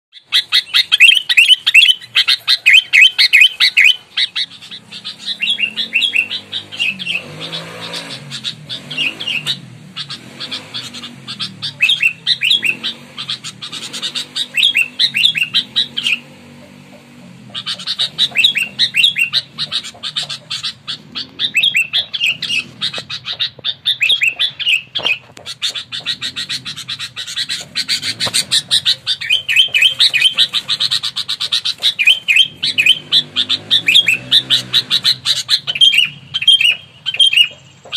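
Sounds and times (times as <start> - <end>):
bird chirping rapidly: 0.1 - 37.9.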